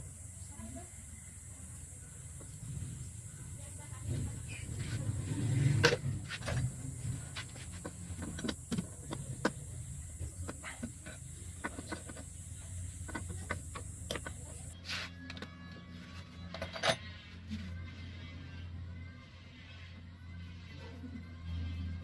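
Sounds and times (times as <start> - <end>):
low steady hum: 0.0 - 20.5.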